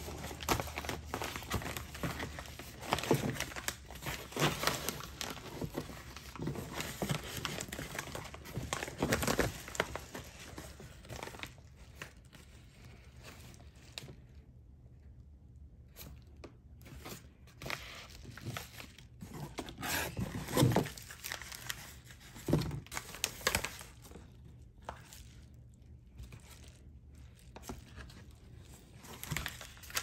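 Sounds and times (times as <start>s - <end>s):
paper envelopes crinkling: 0.0s - 14.1s, 17.1s - 30.0s.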